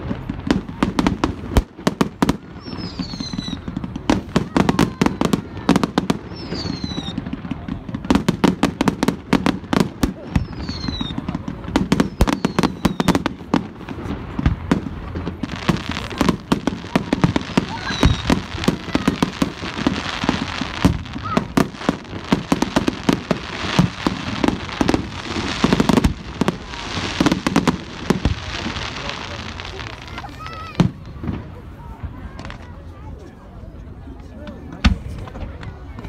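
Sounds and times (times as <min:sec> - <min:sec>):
firework bangs: 0:00.0 - 0:32.7
firework crackle and hiss: 0:00.0 - 0:33.1.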